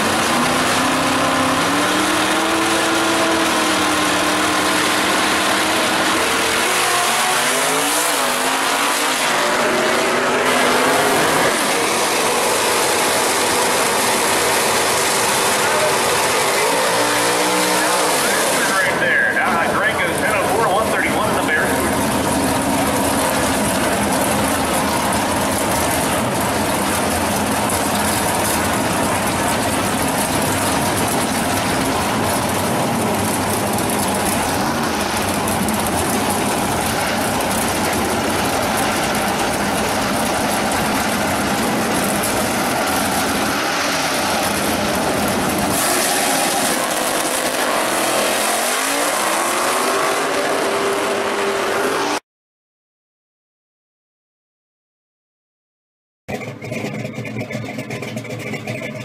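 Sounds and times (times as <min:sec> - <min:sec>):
cars accelerating away: 0:00.0 - 0:52.2
drag car engines revving: 0:00.0 - 0:52.2, 0:56.3 - 0:59.0.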